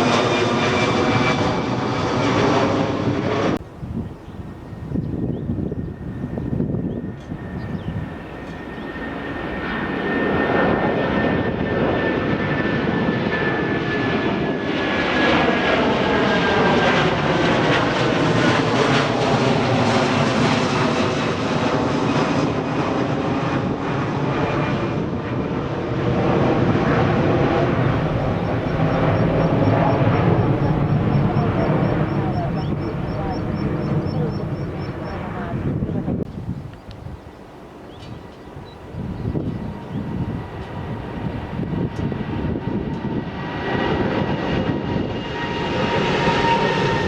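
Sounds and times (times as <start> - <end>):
jet airliner passing: 0.0 - 47.0.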